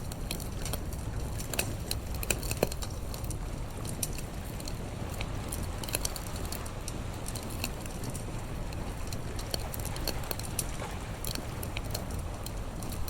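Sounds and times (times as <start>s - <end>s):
low steady rumble: 0.0s - 13.0s
wood fire crackling and popping: 0.0s - 13.0s.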